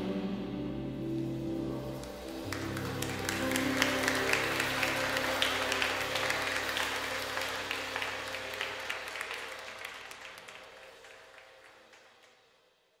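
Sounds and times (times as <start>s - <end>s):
crowd applauding: 1.8s - 12.5s.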